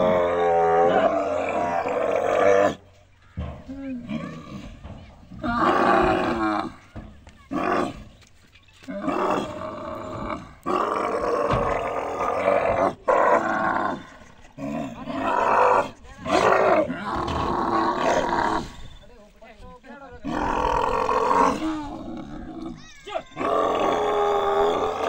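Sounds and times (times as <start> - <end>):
camels bellowing and groaning: 0.0 - 19.0, 20.2 - 25.0.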